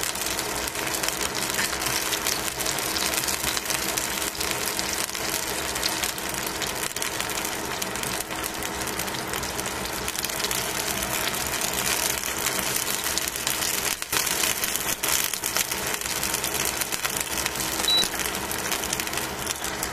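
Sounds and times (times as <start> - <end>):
chicken sizzling in a pan: 0.0 - 19.9.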